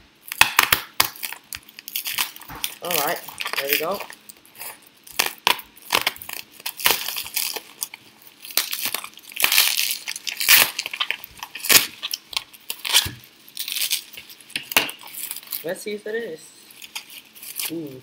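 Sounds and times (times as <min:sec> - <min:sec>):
bubble wrap crinkling and tearing: 0:00.2 - 0:15.8, 0:16.6 - 0:18.0.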